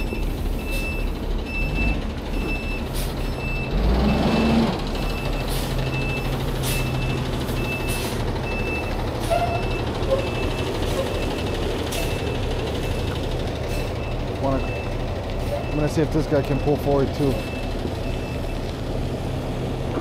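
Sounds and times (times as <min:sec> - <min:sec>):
reversing alarm beeping: 0:00.0 - 0:18.6
truck engine idling: 0:00.0 - 0:20.0.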